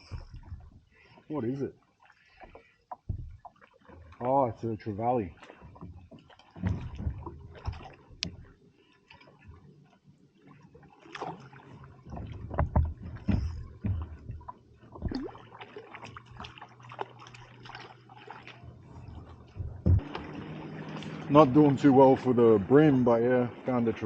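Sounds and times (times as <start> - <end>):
water splashing and dripping: 0.0 - 24.0.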